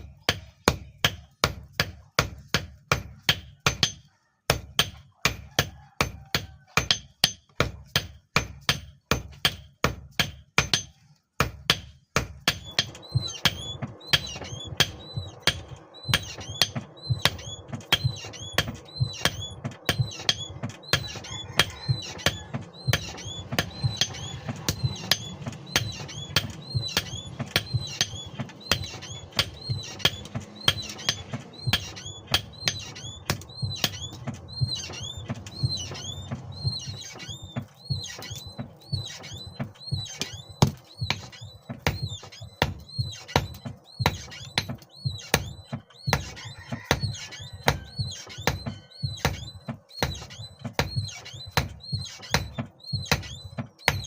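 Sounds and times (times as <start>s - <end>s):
hammer striking anvil: 0.0s - 54.0s
steady background noise: 8.7s - 54.0s.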